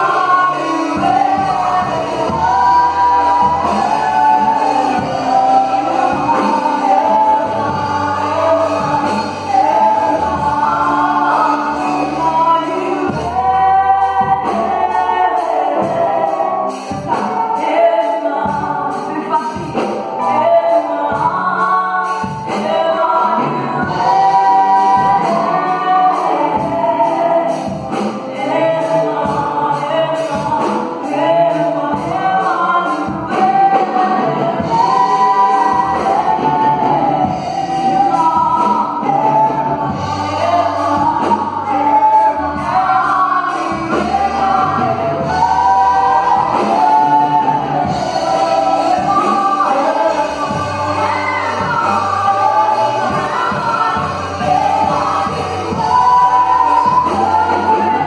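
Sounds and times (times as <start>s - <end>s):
electric keyboard: 0.0s - 58.0s
woman and man singing gospel: 0.0s - 58.0s.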